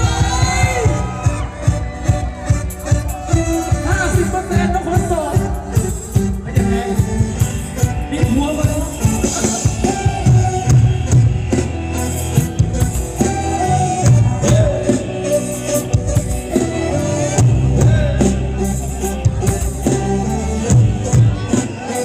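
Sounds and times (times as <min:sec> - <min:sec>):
drum kit beat: 0:00.0 - 0:22.0
live dance band music: 0:00.0 - 0:22.0.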